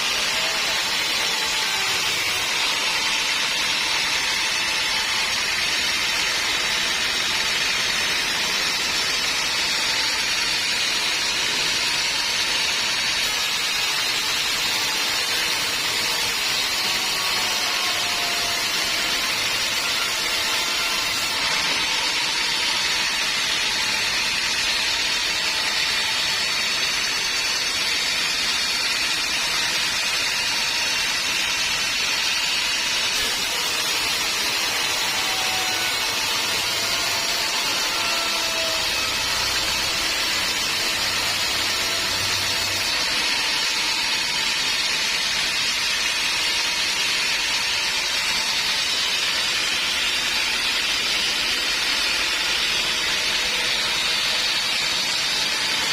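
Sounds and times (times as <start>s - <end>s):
band sawmill cutting log: 0.0s - 55.9s.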